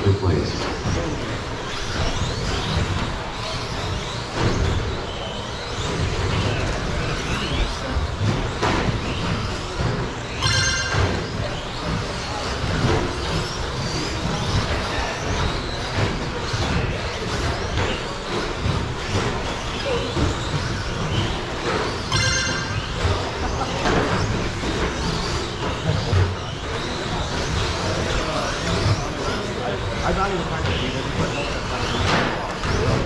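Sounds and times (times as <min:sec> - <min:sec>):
background chatter: 0:00.0 - 0:33.0
electric motors whining: 0:00.0 - 0:33.0.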